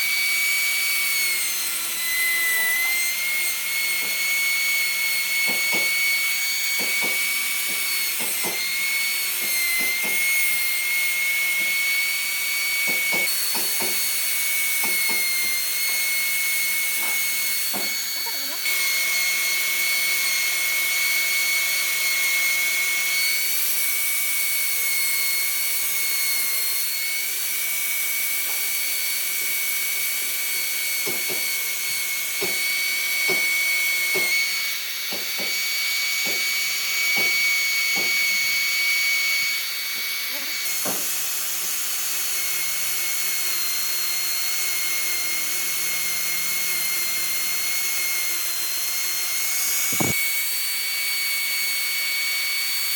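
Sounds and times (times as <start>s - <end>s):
wood lathe whining: 0.0s - 52.9s.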